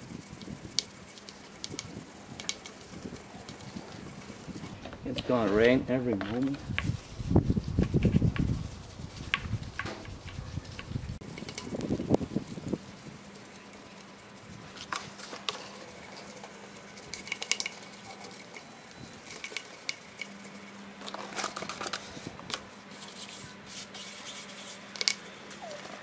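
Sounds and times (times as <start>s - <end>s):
brush scrubbing wheel rim: 0.0s - 26.0s.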